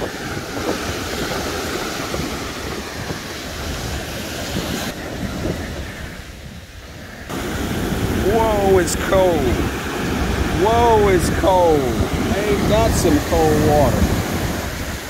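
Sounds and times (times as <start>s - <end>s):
surf breaking on a beach: 0.0s - 15.0s
wind rumbling on microphone: 0.0s - 15.0s.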